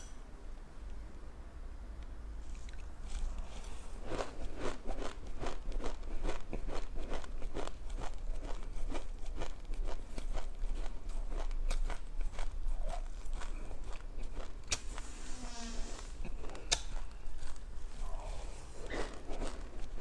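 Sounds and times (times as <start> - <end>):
person chewing crunchy seeds: 2.4 - 15.1, 16.0 - 20.0.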